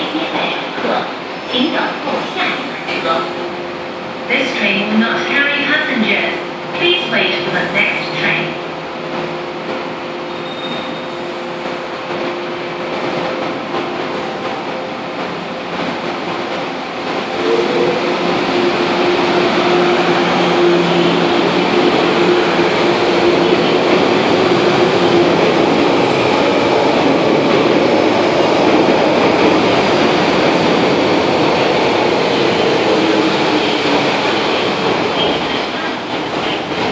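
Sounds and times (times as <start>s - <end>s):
train passing at speed: 0.0s - 36.9s.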